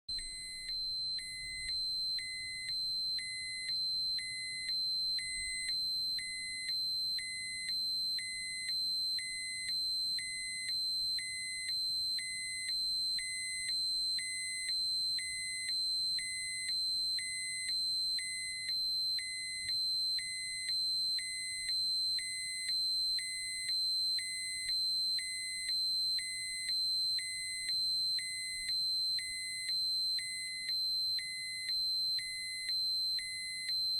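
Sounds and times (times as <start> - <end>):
continuous high-pitched alarm tone: 0.1 - 33.9.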